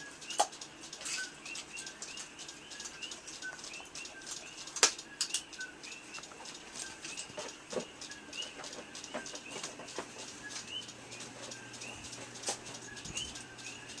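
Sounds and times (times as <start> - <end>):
faint low hum: 0.0 - 14.0
sharp clicks: 0.0 - 14.0
small bird chirping: 0.0 - 14.0.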